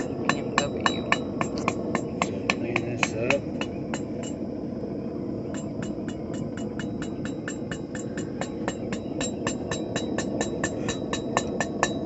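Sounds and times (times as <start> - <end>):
hammer tapping hot metal rod: 0.0 - 4.4, 5.6 - 12.0
rushing forge noise: 0.0 - 4.8, 5.4 - 12.0.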